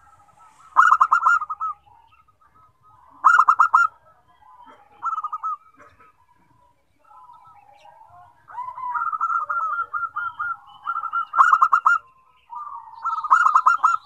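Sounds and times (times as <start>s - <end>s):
doves cooing in staccato trills: 0.0s - 14.0s.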